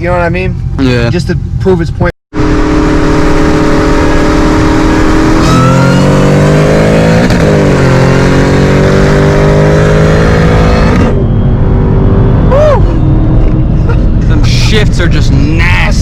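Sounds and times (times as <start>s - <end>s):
car engine accelerating: 2.3s - 16.0s.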